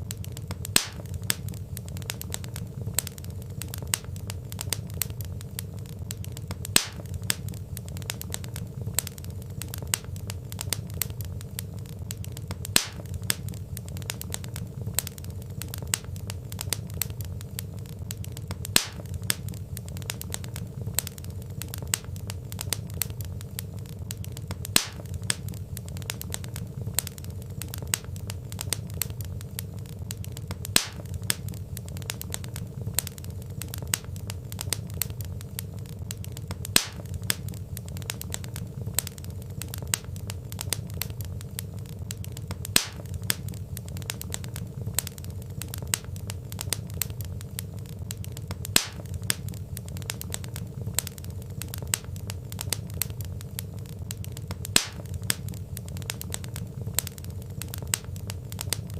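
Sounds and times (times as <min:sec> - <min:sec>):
fire popping: 0:00.0 - 0:58.9
log fire crackling: 0:00.0 - 0:58.9.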